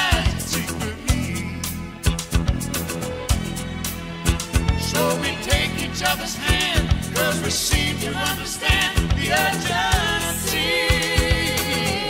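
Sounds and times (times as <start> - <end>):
song with drum beat: 0.0 - 12.0.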